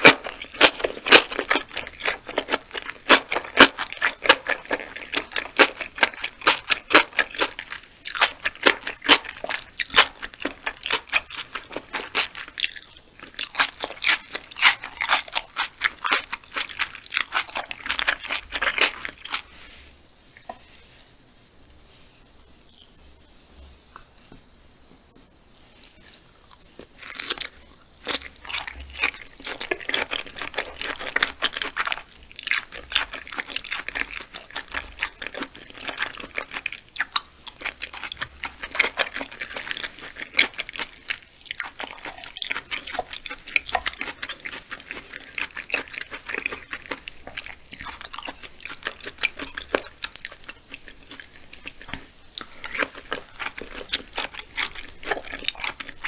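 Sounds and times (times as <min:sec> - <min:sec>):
wet chewing clicks and smacks: 0:00.0 - 0:19.4, 0:26.9 - 0:56.0.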